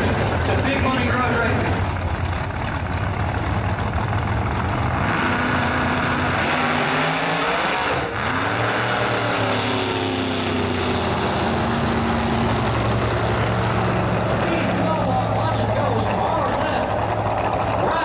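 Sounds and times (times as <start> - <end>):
drag racing car engine revving: 0.0 - 18.0.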